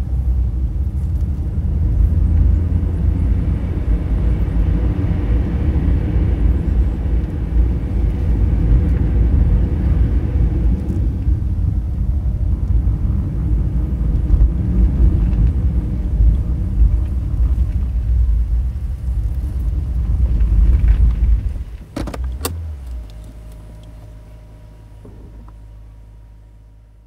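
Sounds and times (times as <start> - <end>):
car engine idling: 0.0 - 27.0
road and tyre rumble: 0.0 - 27.0.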